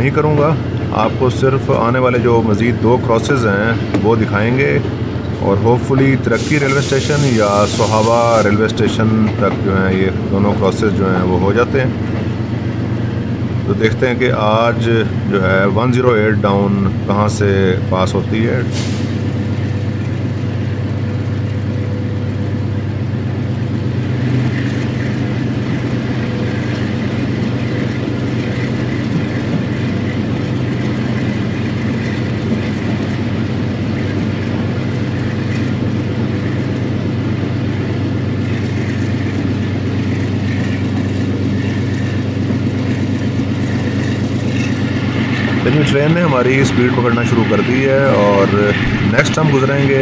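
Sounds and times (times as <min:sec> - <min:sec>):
locomotive engine droning: 0:00.0 - 0:50.0
train wheels rumbling on track: 0:00.0 - 0:50.0.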